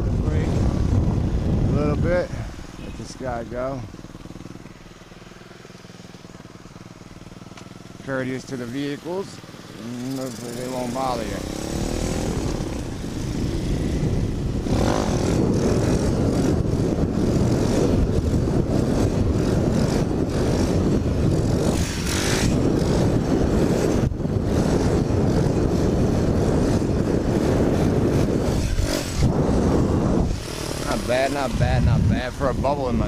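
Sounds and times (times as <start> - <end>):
small motorbike engine running: 0.0 - 33.0
wind rushing across microphone: 0.0 - 33.0.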